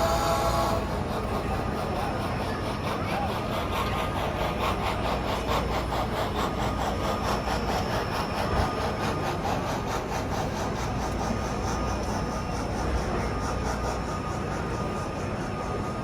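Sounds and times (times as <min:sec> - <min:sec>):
model train wheels clicking: 0:00.0 - 0:16.0.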